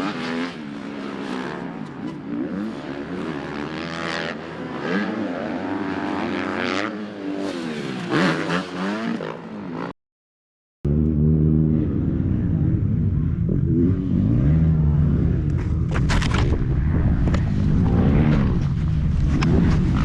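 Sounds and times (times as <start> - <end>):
dirt bike engine revving: 0.0 - 9.9, 10.9 - 20.0.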